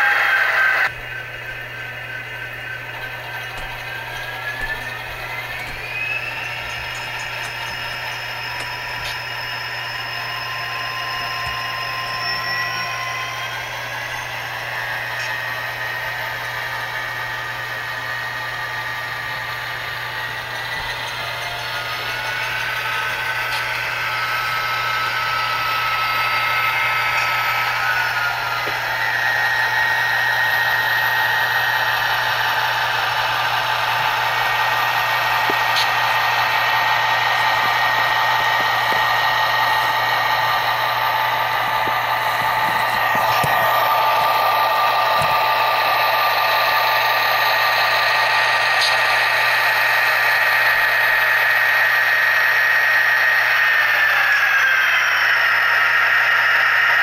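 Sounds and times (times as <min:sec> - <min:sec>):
model diesel engine sound: 0:00.0 - 0:57.0
steady whining tones: 0:00.0 - 0:57.0.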